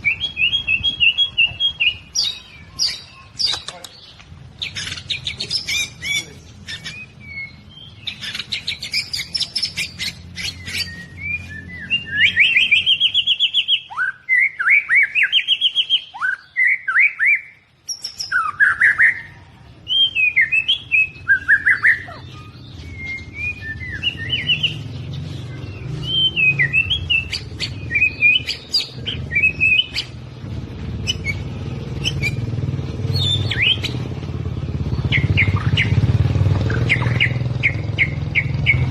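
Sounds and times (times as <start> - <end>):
bird singing whistled song: 0.0 - 30.3, 31.0 - 32.5, 33.1 - 34.1, 34.8 - 38.9.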